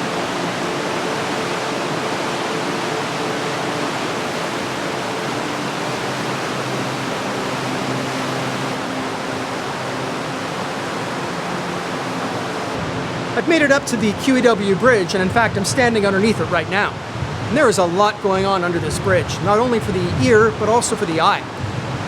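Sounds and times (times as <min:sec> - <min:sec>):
creek rushing water: 0:00.0 - 0:22.0.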